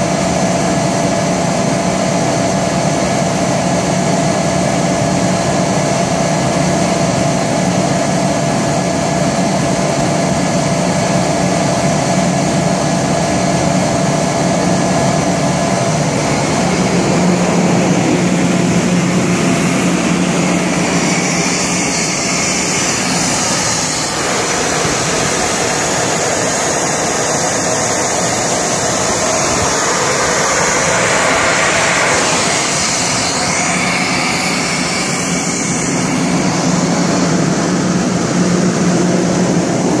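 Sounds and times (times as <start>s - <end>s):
air compressor droning: 0.0s - 40.0s.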